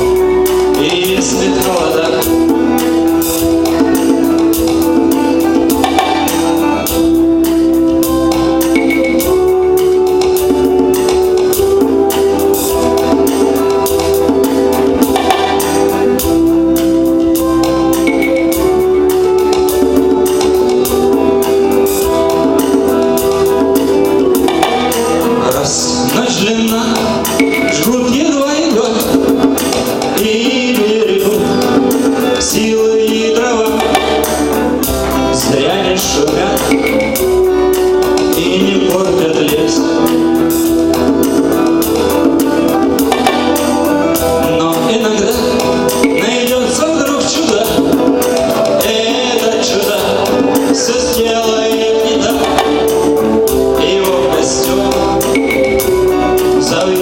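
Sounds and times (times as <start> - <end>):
drums: 0.0 - 57.0
instrumental rock music: 0.0 - 57.0
lead melody long notes: 0.0 - 57.0.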